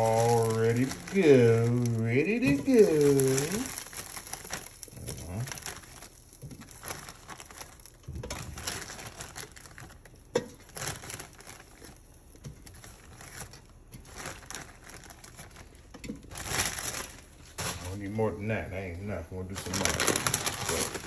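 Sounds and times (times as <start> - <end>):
shrimp rustling in fryer basket: 0.0 - 18.3, 19.5 - 21.0.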